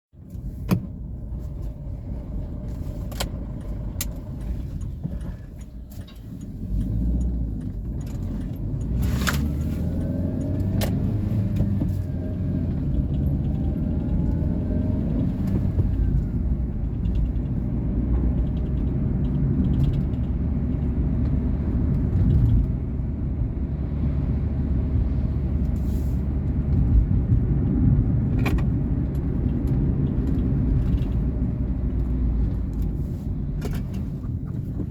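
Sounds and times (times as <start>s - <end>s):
car engine and road rumble: 0.1s - 34.9s.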